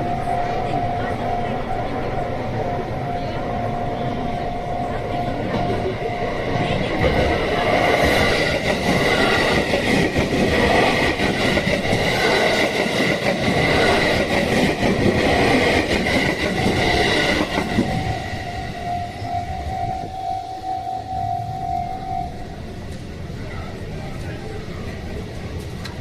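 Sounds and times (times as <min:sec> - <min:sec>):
level crossing warning bell: 0:00.0 - 0:12.4, 0:13.1 - 0:22.9
train rushing past: 0:00.0 - 0:26.0.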